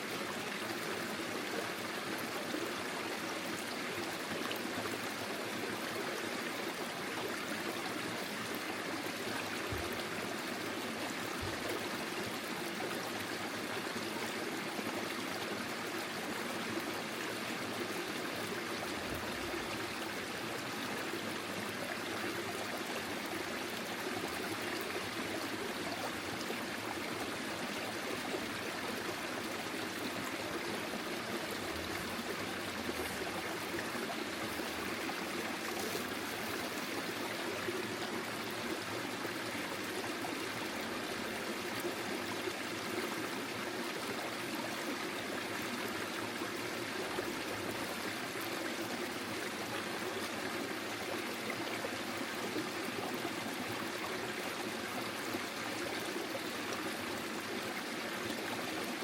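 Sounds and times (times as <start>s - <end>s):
stream flowing over stones: 0.0s - 59.0s.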